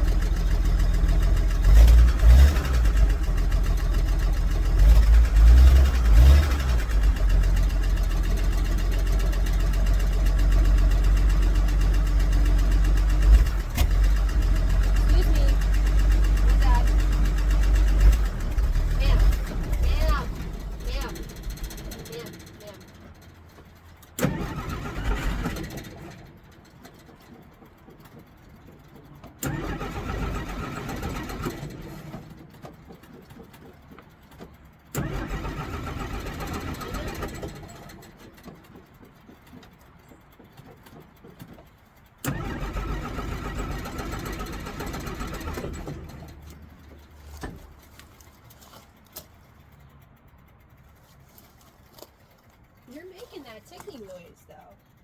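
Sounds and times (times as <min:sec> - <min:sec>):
engine starting and dying: 0:00.0 - 0:55.0.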